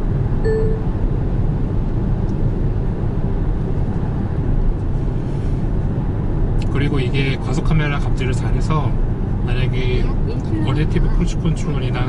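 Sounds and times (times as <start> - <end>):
car cabin road and wind noise: 0.0 - 12.0.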